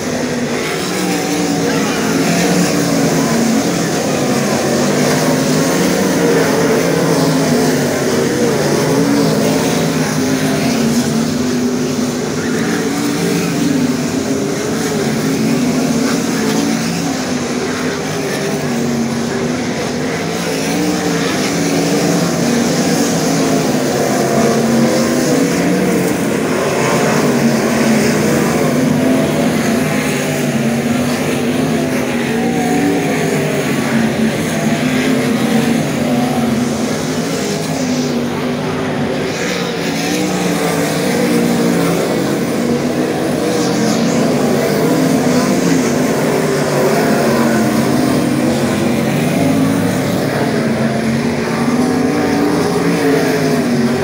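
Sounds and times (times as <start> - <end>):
race car engines roaring past: 0.0 - 54.0.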